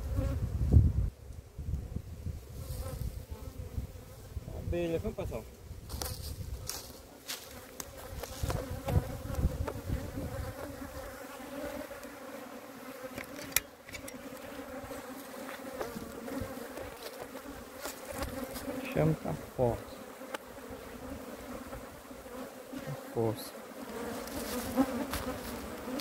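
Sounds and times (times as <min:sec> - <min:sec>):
bees buzzing: 0:05.1 - 0:26.0.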